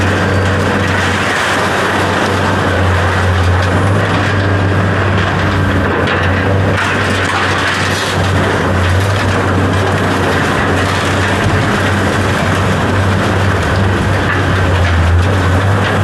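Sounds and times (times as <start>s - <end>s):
engine running with low hum: 0.0s - 16.0s.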